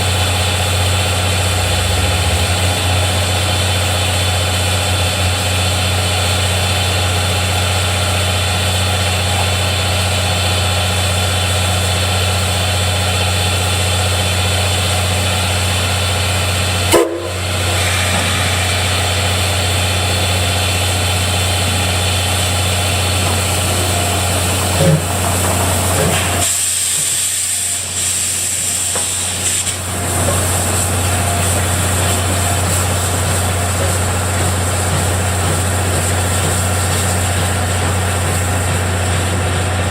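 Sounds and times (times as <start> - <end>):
steam hissing: 0.0 - 39.9.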